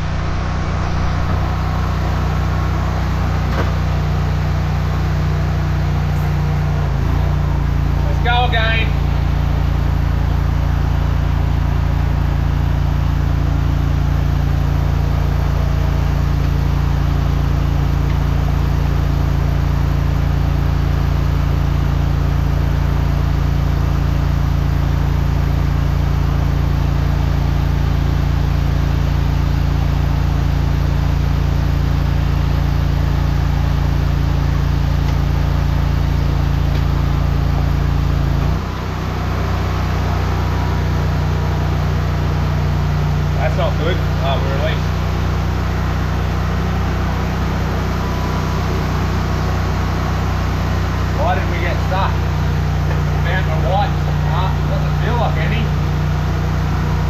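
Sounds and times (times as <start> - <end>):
engine and pump drone: 0.0 - 57.0.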